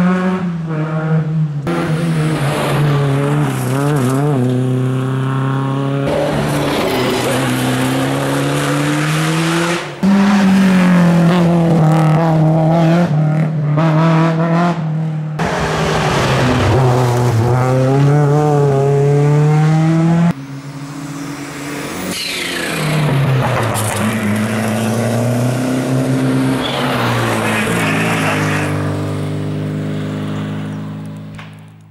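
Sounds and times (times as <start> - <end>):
rally car engines revving: 0.0 - 31.4.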